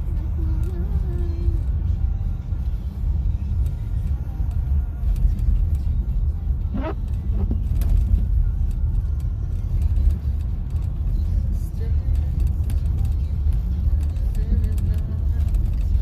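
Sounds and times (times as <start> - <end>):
engine and tyre rumble: 0.0 - 16.0
song on car radio: 0.0 - 16.0.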